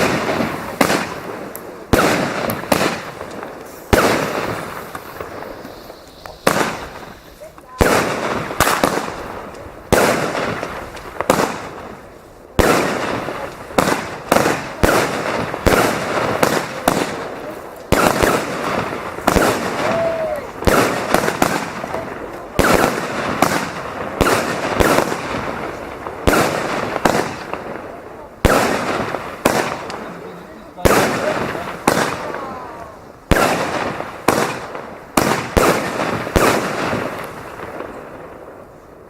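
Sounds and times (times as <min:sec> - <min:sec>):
fireworks bangs with crackle: 0:00.0 - 0:39.0.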